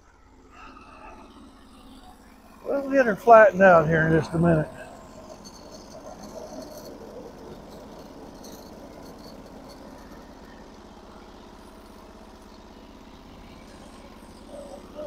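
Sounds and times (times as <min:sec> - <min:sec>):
bandsaw mill engine running: 0:00.0 - 0:15.0.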